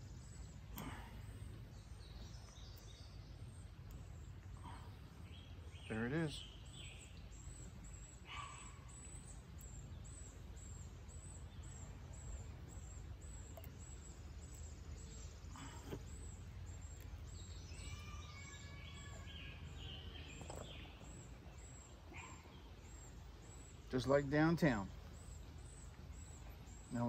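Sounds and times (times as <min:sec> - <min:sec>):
bird singing: 0:00.0 - 0:27.0.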